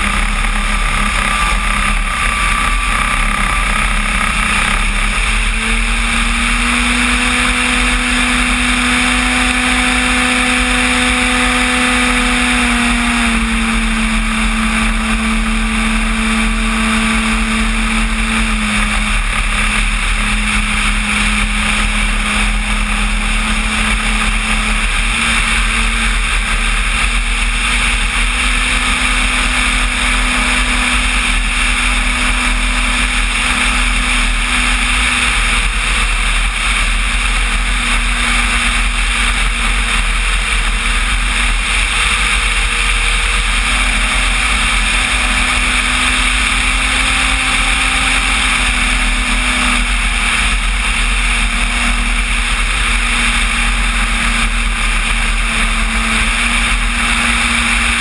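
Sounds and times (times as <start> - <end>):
model plane motor drone: 0.0 - 58.0.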